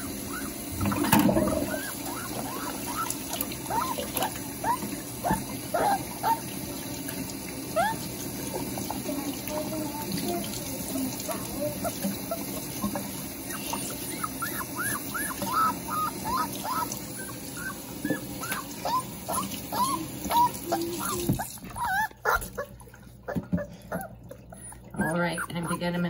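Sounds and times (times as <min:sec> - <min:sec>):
puppy whining and whimpering: 0:00.0 - 0:06.6, 0:07.7 - 0:26.0
tap water running into sink: 0:00.0 - 0:25.7.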